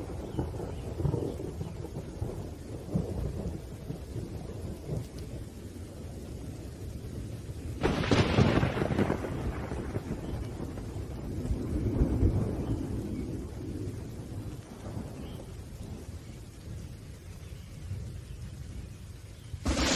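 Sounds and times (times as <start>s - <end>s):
loud thunderclap rumbling: 0.0s - 16.2s, 19.6s - 19.9s
low rolling thunder: 0.0s - 19.9s
steady rain: 0.0s - 19.9s.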